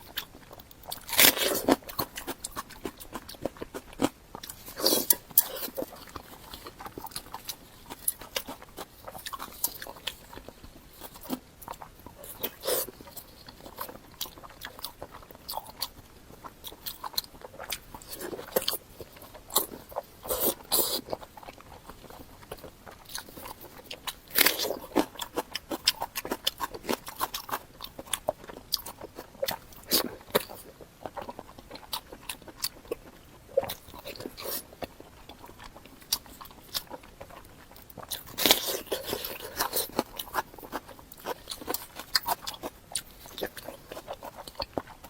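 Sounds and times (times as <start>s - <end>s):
person biting and chewing: 0.0s - 45.0s.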